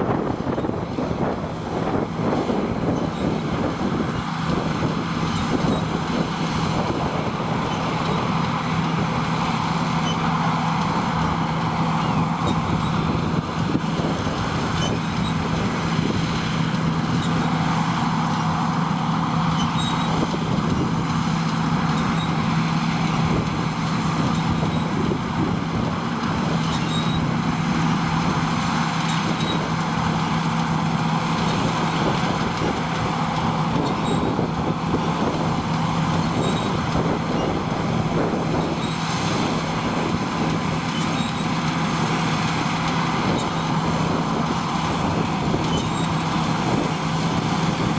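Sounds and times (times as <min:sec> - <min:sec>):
diesel engine drone: 0:00.0 - 0:47.9.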